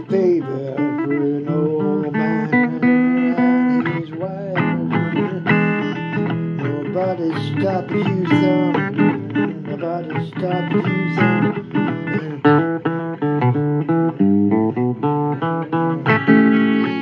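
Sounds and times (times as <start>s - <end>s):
blues guitar music: 0.0s - 17.0s.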